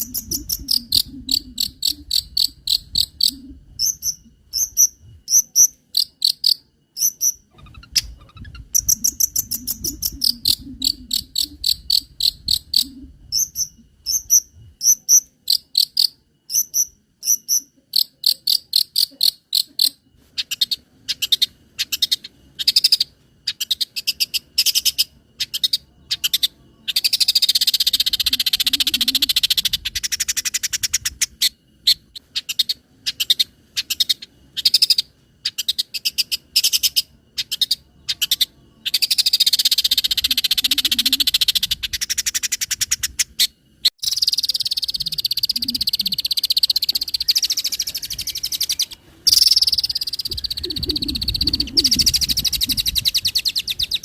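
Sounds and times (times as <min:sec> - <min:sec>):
bird singing ticks and trills: 0:00.0 - 0:54.0.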